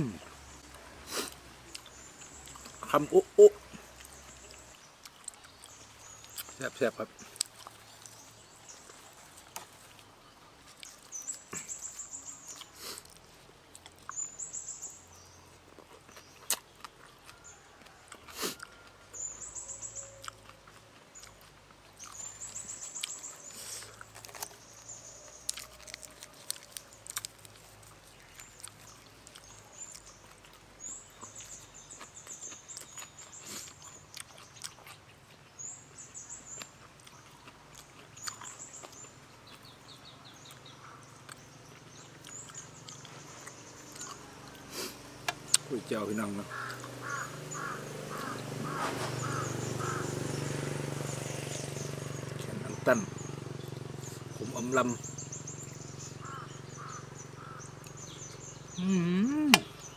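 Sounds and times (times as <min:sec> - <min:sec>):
close chewing with wet mouth sounds: 0:00.5 - 0:54.5.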